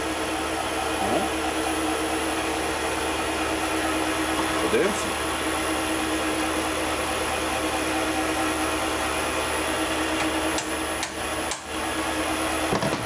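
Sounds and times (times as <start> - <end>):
lathe motor hum with whine: 0.0 - 13.0.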